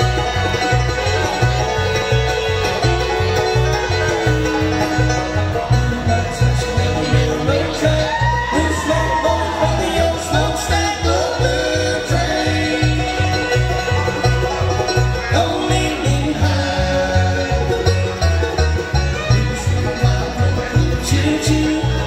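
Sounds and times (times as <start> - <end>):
acoustic guitar: 0.0 - 22.0
banjo: 0.0 - 22.0
fiddle: 0.0 - 22.0
mandolin: 0.0 - 22.0
upright bass steady beat: 0.0 - 22.0.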